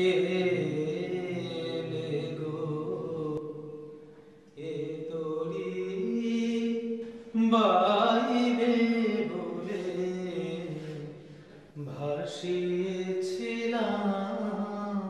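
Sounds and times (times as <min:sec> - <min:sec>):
man singing slow song: 0:00.0 - 0:15.0.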